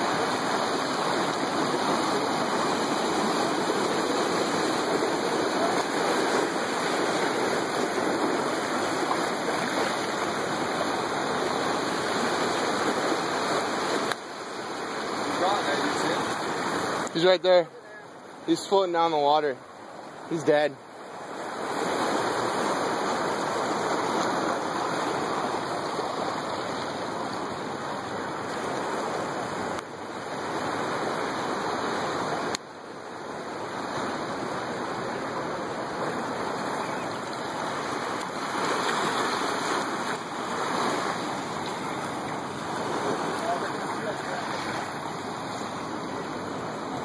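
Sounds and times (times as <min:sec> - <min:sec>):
surf washing onto beach: 0:00.0 - 0:47.0.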